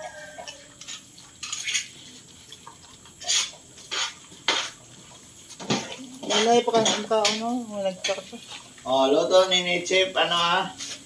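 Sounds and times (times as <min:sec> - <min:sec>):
dogs eating: 0:00.0 - 0:10.8.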